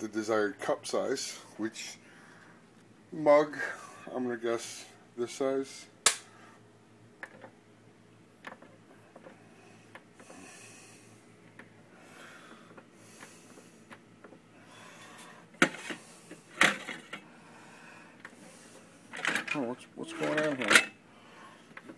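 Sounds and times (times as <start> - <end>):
low steady hum: 0.0 - 21.9.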